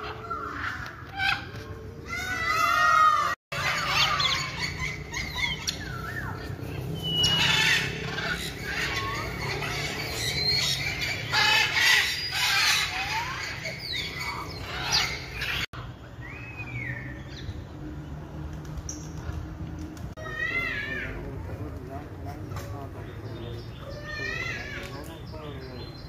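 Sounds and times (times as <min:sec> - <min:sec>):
birds chirping and squawking: 0:00.0 - 0:18.0, 0:18.7 - 0:26.0.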